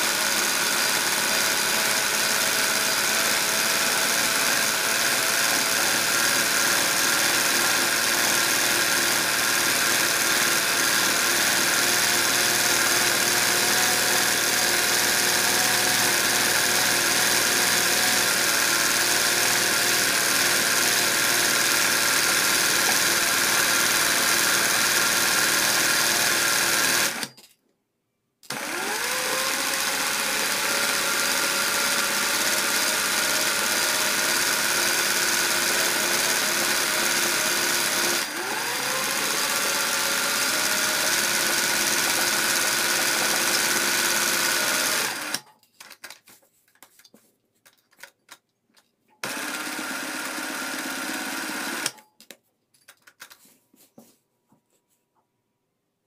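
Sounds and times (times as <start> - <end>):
sewing machine stitching: 0.0 - 27.3, 28.5 - 45.4, 49.2 - 52.0.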